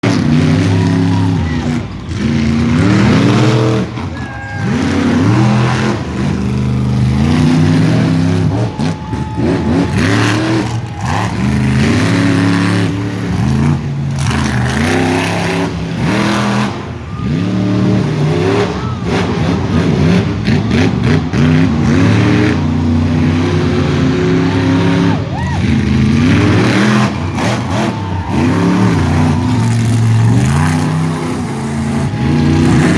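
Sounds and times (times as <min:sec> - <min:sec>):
monster truck engines revving: 0:00.0 - 0:32.9.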